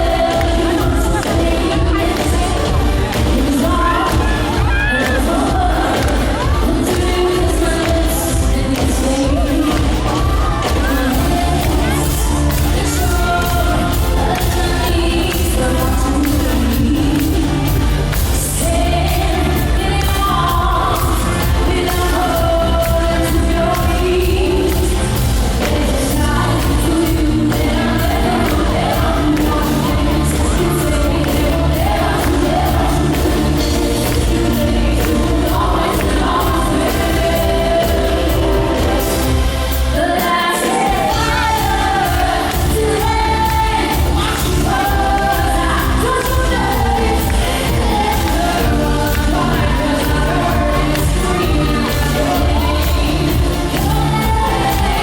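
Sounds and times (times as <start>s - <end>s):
heavy bass line: 0.0s - 40.1s, 40.9s - 55.0s
band playing: 0.0s - 55.0s
woman singing: 0.0s - 55.0s.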